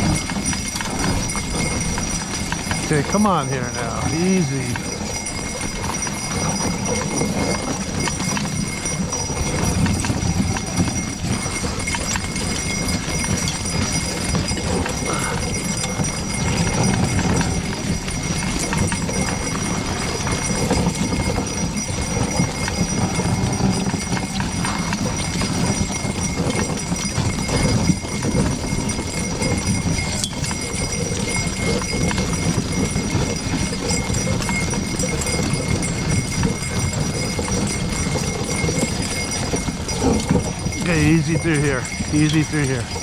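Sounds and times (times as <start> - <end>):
hooves clopping on snow: 0.0 - 43.0.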